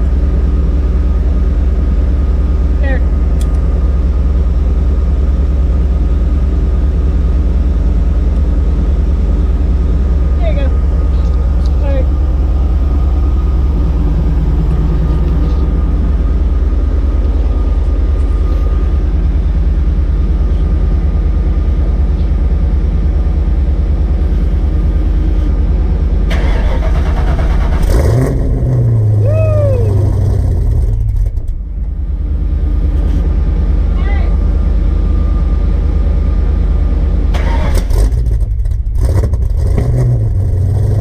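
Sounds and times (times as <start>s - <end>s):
supercharged car engine rumbling: 0.0s - 41.0s.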